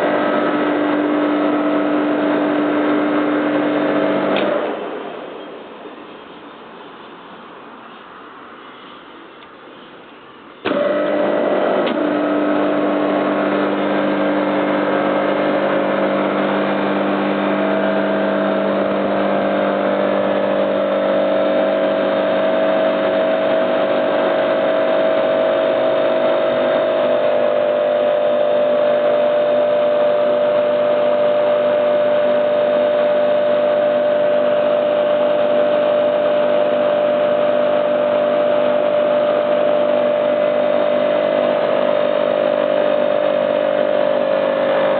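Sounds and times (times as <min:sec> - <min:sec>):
air compressor humming: 0:00.0 - 0:44.9.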